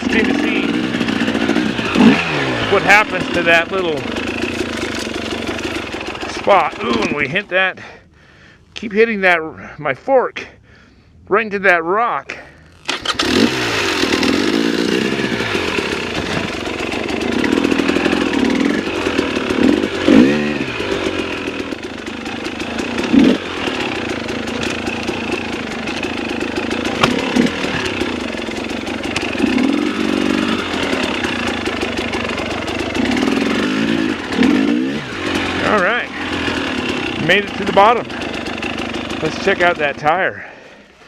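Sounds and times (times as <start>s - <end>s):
dirt bike engine revving: 0.0s - 8.0s, 12.4s - 41.0s.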